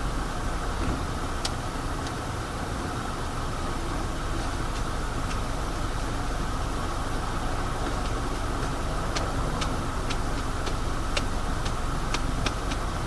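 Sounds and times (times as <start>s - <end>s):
turn signal ticking: 0.0s - 2.4s, 3.4s - 13.0s
car road and engine noise: 0.0s - 13.0s.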